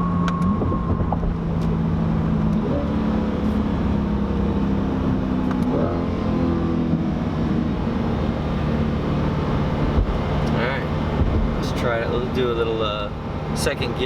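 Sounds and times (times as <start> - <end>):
car engine while driving: 0.0 - 14.0.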